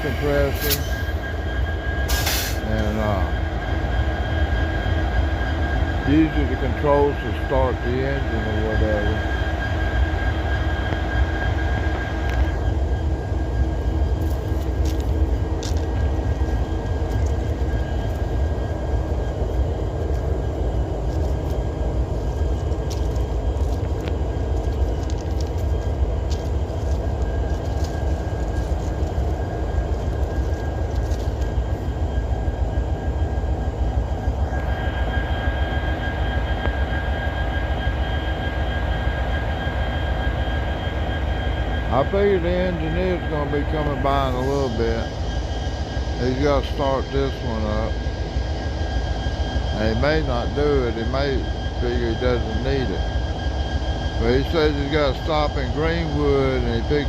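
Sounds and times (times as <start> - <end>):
locomotive idling rumble: 0.0 - 57.0
thin whine: 0.0 - 57.0.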